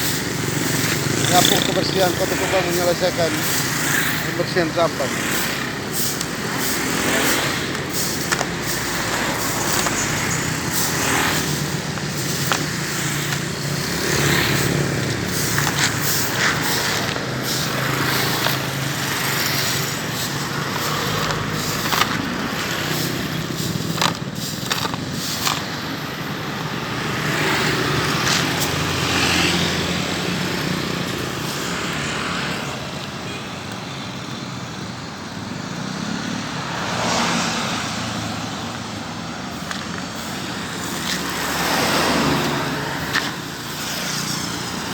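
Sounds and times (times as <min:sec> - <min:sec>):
cars and motorcycles passing: 0:00.0 - 0:44.9.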